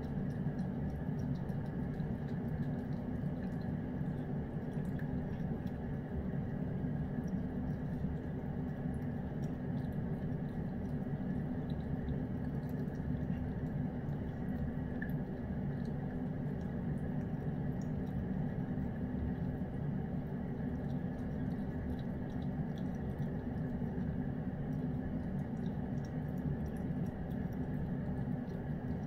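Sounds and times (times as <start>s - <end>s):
cat licking and chewing: 0.0s - 29.0s
low steady hum: 0.0s - 29.0s.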